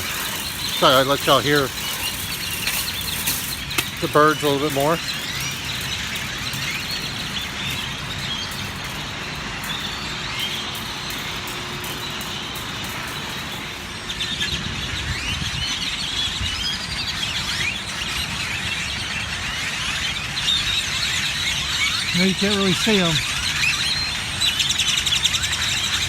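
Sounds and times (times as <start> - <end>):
flock of birds chirping: 0.0 - 26.0.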